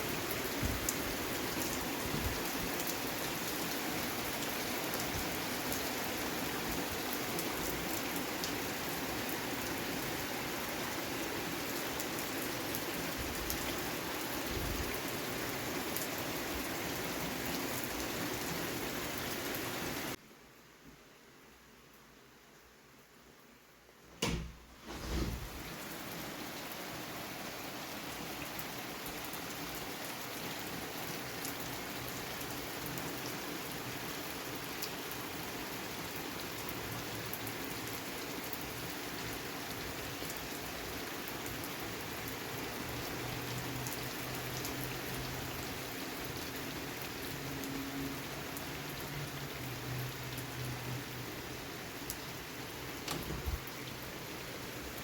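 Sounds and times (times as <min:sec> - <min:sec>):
heavy rain falling: 0:00.0 - 0:20.2, 0:24.8 - 0:55.0.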